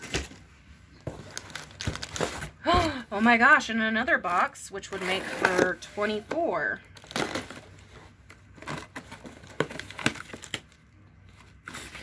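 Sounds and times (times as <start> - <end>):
packaging crinkling and rustling: 0.0 - 3.0, 5.1 - 12.0.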